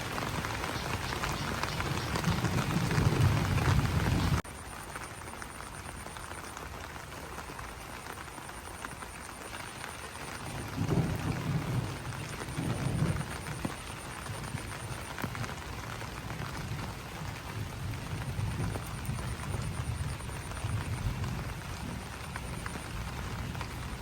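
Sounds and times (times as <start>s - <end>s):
rain pattering on leaves: 0.0s - 24.0s.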